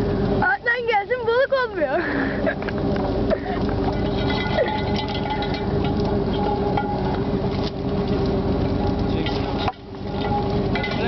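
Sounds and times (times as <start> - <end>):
boat engine running: 0.0 - 11.0
light clatter and clicks: 1.9 - 11.0.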